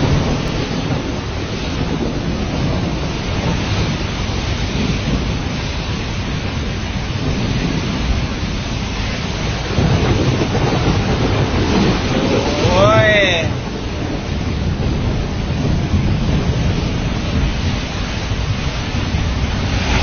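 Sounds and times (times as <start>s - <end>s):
deep rumble: 0.0s - 20.0s
heavy rain: 0.0s - 20.0s
wind: 0.0s - 20.0s.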